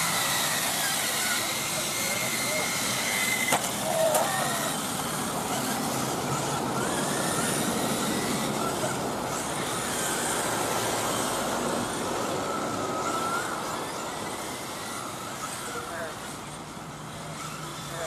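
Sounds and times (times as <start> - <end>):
rc car motors whining: 0.0 - 18.0
steady background noise: 0.0 - 18.0.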